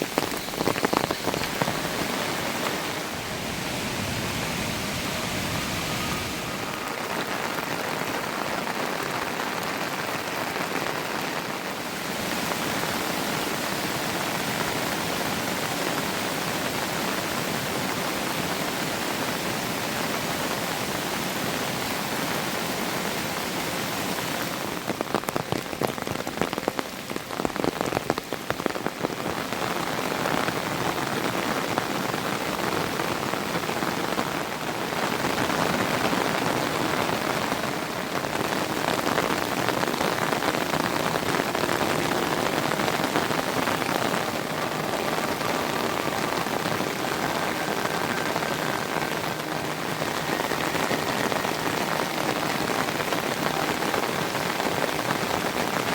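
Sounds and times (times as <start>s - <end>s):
close raindrops striking sharply: 0.0s - 55.9s
heavy rain falling: 0.0s - 55.9s.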